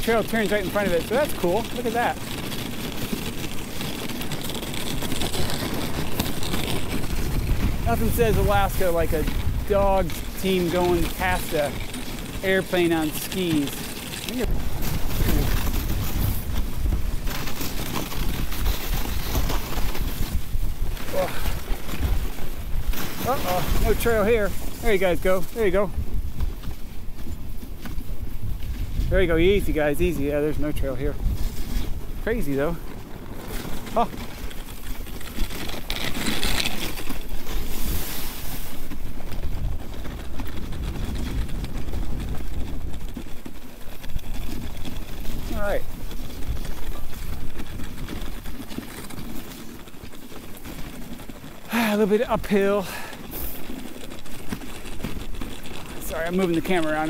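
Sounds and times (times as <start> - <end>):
sled runners sliding on snow: 0.0 - 57.0
wind buffeting microphone: 0.0 - 57.0.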